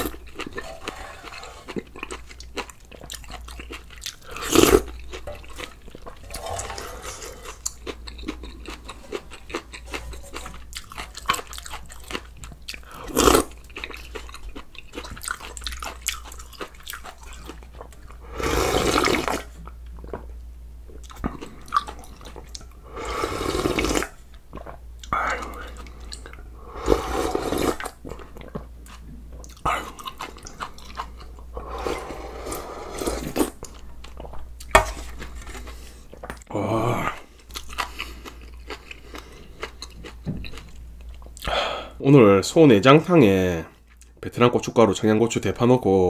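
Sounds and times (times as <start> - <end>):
chewing and crunching food: 0.0 - 41.6, 43.7 - 44.2.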